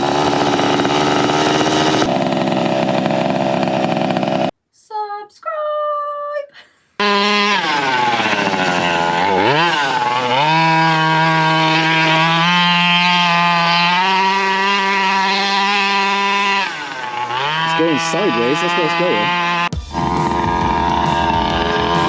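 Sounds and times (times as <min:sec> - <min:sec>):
rc car two-stroke engine revving: 0:00.0 - 0:04.5, 0:07.0 - 0:22.0.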